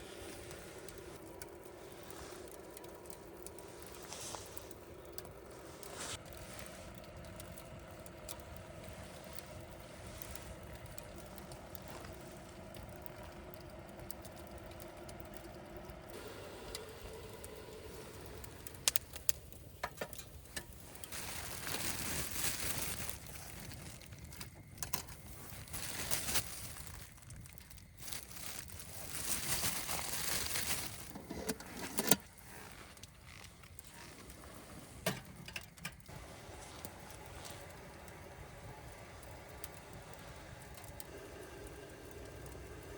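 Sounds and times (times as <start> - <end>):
rustling or crinkling: 0.0 - 42.9.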